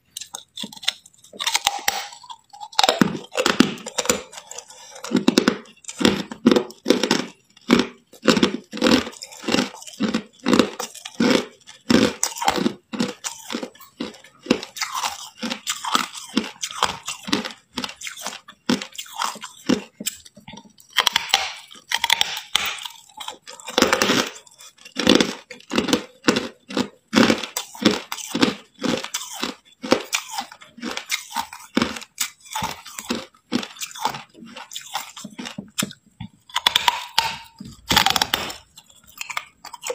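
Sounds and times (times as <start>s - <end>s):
ice crunching between teeth: 0.1s - 39.9s.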